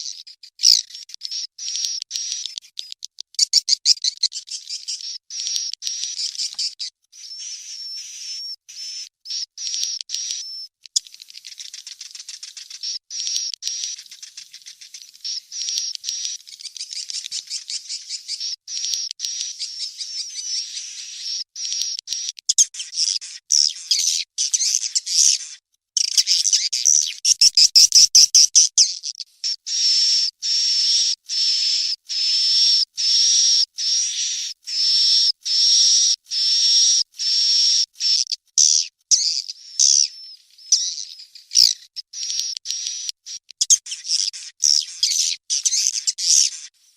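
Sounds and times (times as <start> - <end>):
swiftlet chicks chirping: 0.0 - 46.7.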